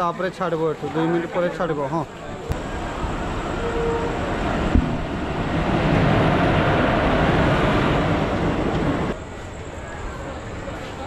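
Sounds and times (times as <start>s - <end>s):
train passing on rails: 0.0s - 11.0s.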